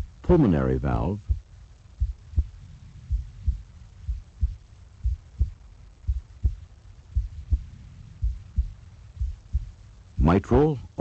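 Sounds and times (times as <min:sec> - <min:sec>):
heartbeat: 0:01.2 - 0:10.4.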